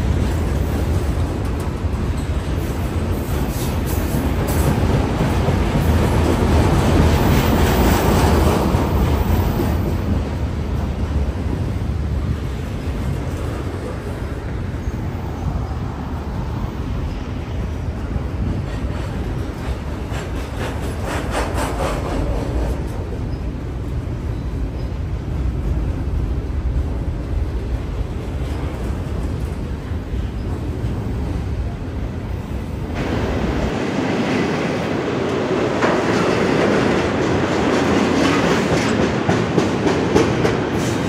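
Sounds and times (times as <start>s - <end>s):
freight train wheels rumbling on rail: 0.0s - 41.0s.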